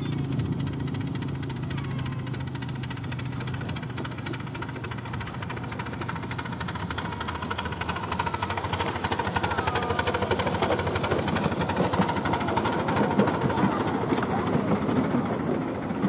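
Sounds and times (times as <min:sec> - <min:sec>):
miniature train clattering on track: 0:00.0 - 0:16.0.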